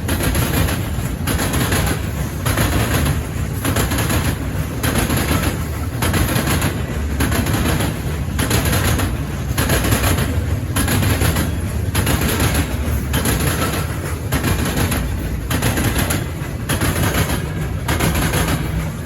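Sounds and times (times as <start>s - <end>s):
freight train rumbling: 0.0s - 19.0s
wheels clacking on rail joints: 0.0s - 19.0s.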